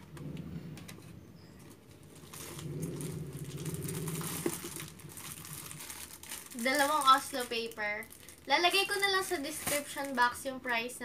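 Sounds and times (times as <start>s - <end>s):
paper rustling and crinkling: 0.9s - 10.5s.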